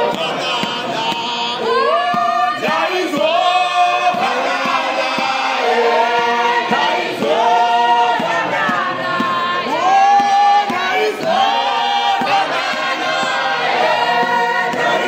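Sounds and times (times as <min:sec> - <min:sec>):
men's choir singing a hymn: 0:00.0 - 0:15.0.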